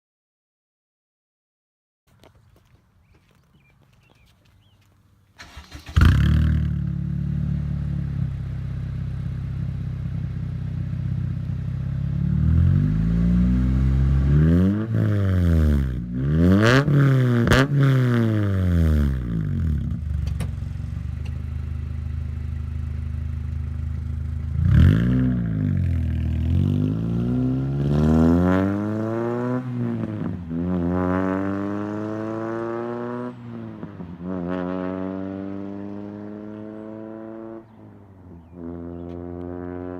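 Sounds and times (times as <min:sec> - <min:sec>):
car engine idling and revving: 0:05.4 - 0:39.9.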